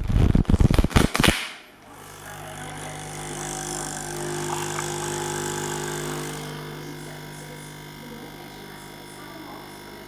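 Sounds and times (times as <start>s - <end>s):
small motor humming: 1.8s - 10.0s.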